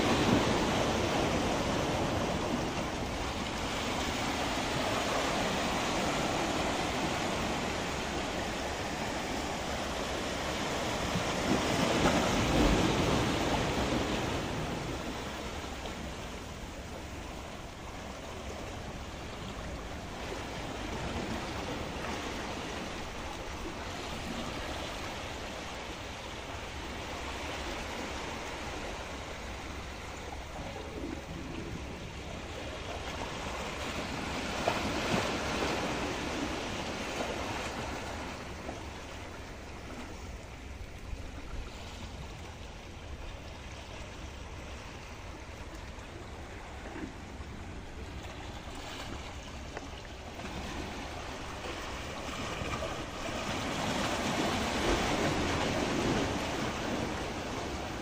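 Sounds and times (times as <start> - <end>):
waves splashing against rocks: 0.0 - 58.0.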